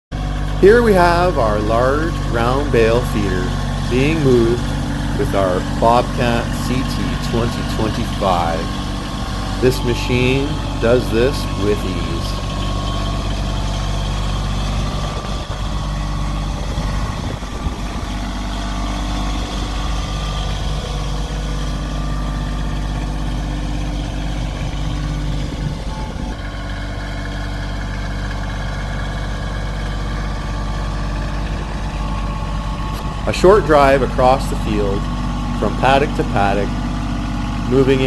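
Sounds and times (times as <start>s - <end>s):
tractor engine running: 0.1s - 38.0s.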